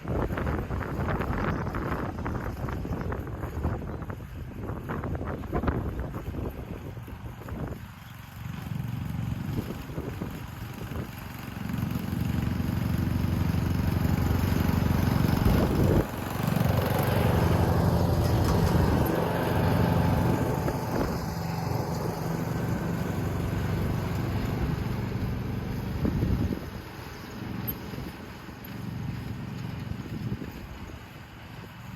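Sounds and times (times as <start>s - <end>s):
riding mower engine running: 0.0s - 31.9s.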